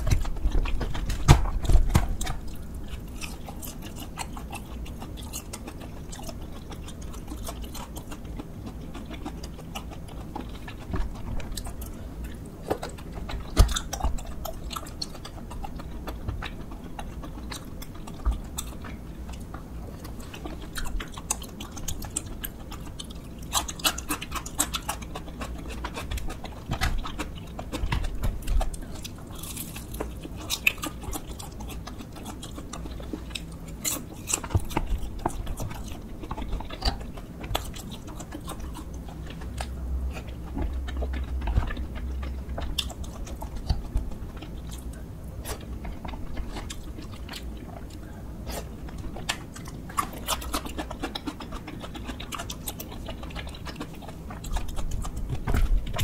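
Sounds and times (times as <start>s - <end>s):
chewing crunchy fried chicken: 0.0s - 56.0s.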